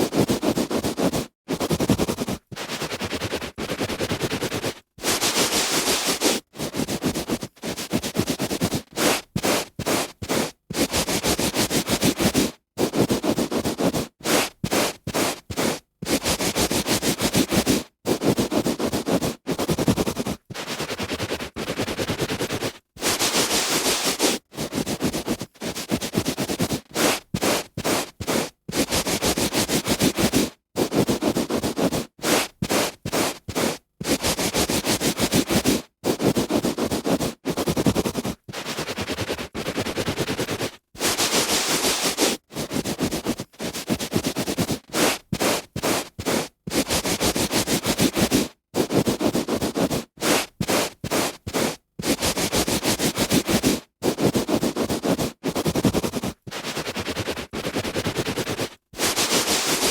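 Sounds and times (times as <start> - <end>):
hand rubbing on carpet: 0.0 - 59.9.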